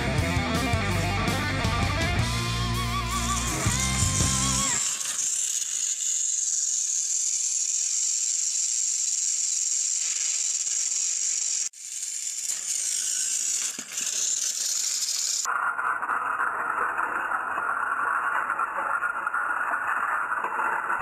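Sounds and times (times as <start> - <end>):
toy train motors whirring: 2.2 - 21.0.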